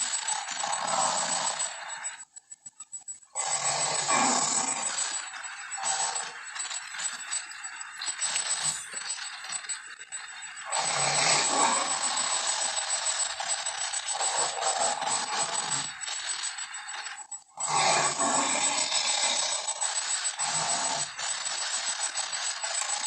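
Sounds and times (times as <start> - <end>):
cartoon rattling and scraping: 0.0 - 23.0.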